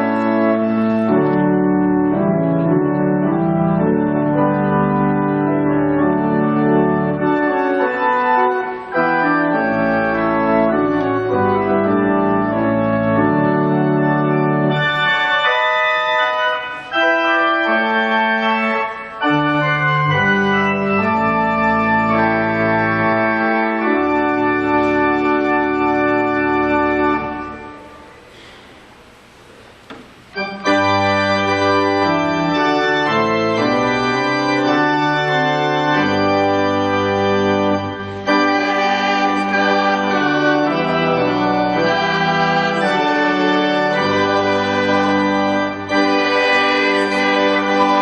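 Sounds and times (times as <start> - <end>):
organ playing sustained chords: 0.0 - 48.0.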